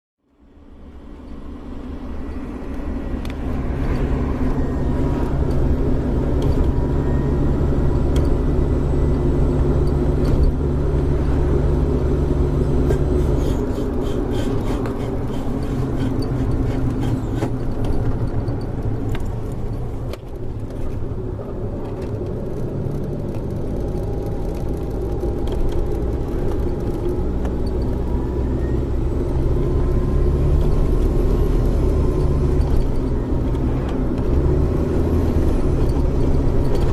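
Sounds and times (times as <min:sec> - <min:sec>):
car engine low rumble: 0:00.2 - 0:36.9
faint wheel hub whine: 0:00.2 - 0:36.9.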